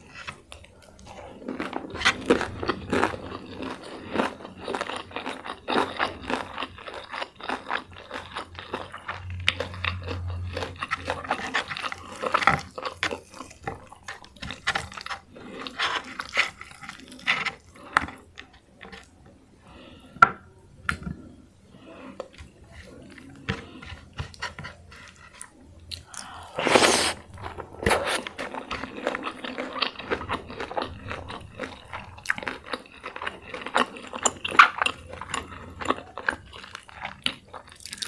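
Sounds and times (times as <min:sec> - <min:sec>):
chewing crispy food: 0:00.0 - 0:38.0.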